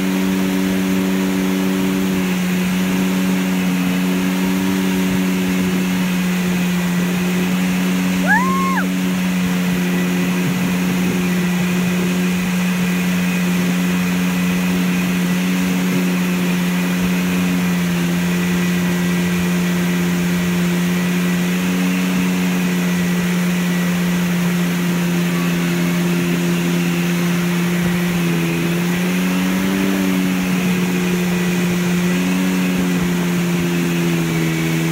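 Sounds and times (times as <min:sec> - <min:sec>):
boat engine humming: 0:00.0 - 0:34.9
hiss of boat wake: 0:00.0 - 0:34.9.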